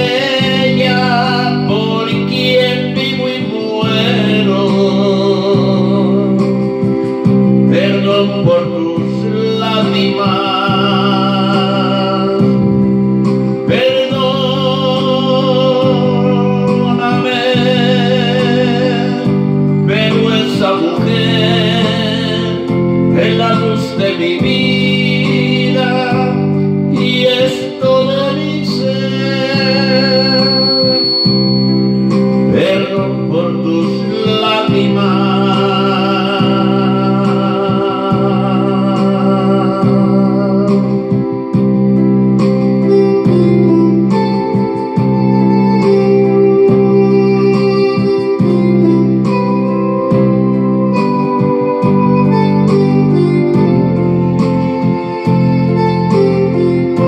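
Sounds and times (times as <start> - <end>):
electronic keyboard accompaniment: 0.0 - 57.0
man singing a ballad: 0.0 - 57.0.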